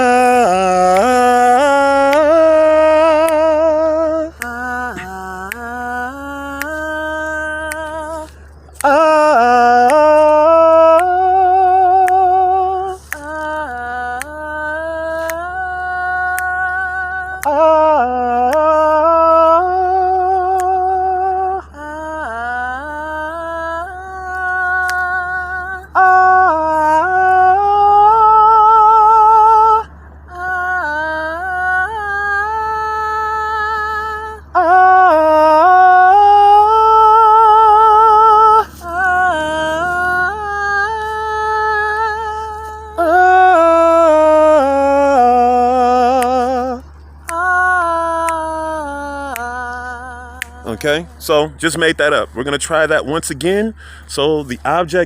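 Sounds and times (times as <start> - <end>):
person singing wordless phrases: 0.0 - 55.0.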